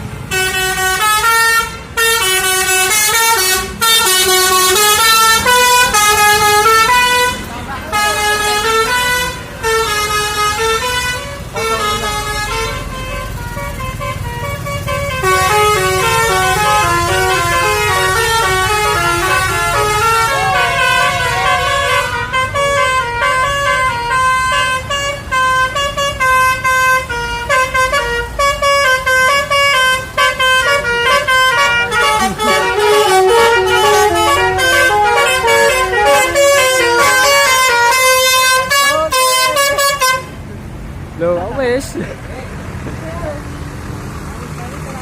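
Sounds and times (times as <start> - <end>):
musical multi-tone air horns: 0.2 - 40.4.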